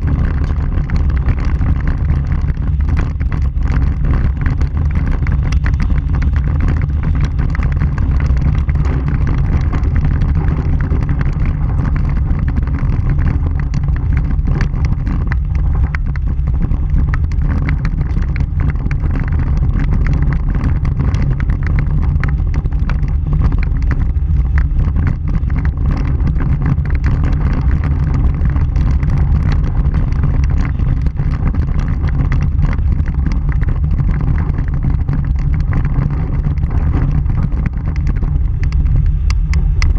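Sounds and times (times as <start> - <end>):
gravel crackling under tyres: 0.0 - 39.9
wind and road noise rumble: 0.0 - 39.9.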